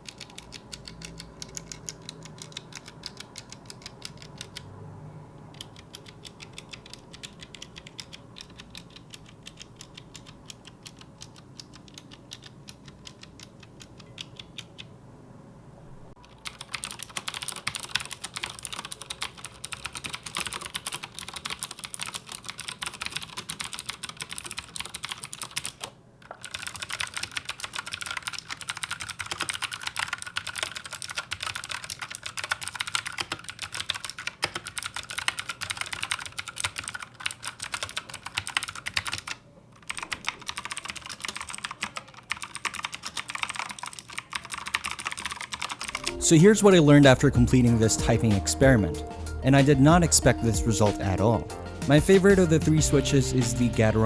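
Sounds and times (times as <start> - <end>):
fast typing on clicky keyboard: 0.0 - 4.7, 5.5 - 14.9, 16.2 - 48.9, 49.5 - 54.0.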